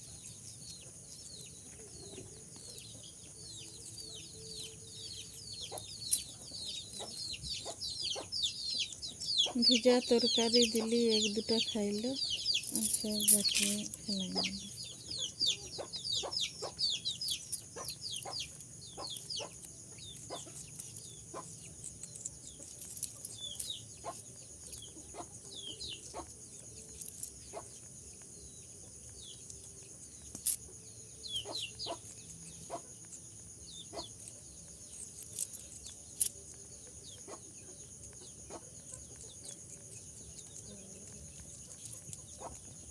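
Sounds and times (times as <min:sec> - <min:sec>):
bird chirping: 0:00.0 - 0:42.9.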